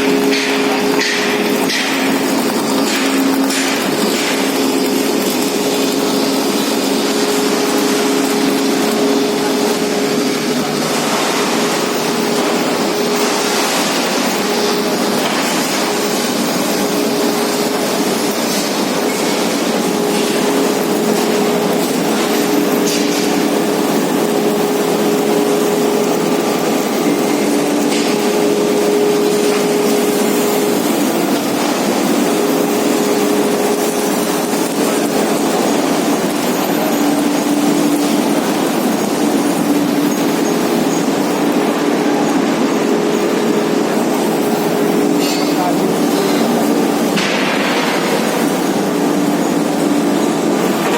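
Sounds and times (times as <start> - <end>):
electric arc furnace arcing: 0.0 - 50.9.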